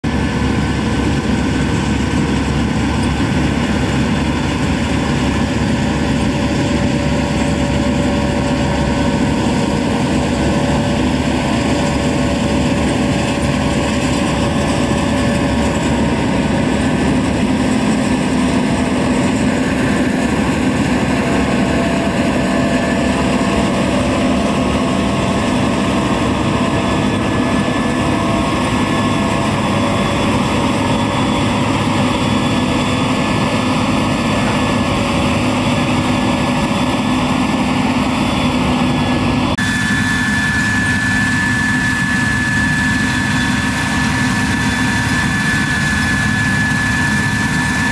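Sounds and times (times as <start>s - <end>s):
combine harvester engine droning: 0.0s - 47.9s
steady whining tones: 0.1s - 47.9s.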